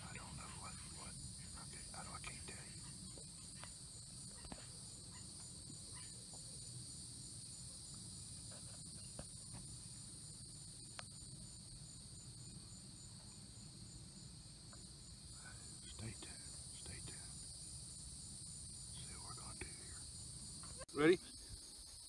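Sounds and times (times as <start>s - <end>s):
insect chorus trilling: 0.0s - 22.0s.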